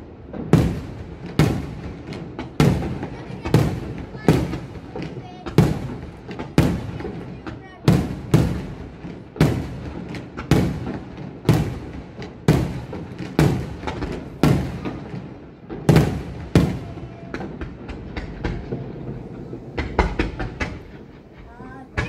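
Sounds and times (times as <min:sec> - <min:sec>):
crackling firework bangs: 0:00.0 - 0:22.0
firework shells bursting: 0:00.3 - 0:22.0.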